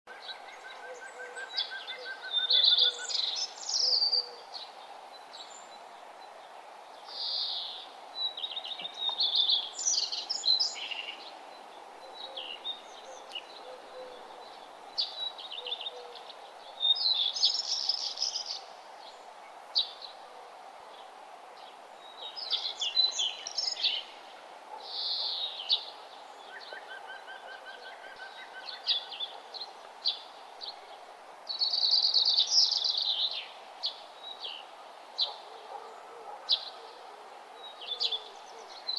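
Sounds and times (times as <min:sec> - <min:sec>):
birds singing: 0:00.1 - 0:06.5, 0:07.1 - 0:20.2, 0:20.9 - 0:38.9
background hiss: 0:00.1 - 0:38.9.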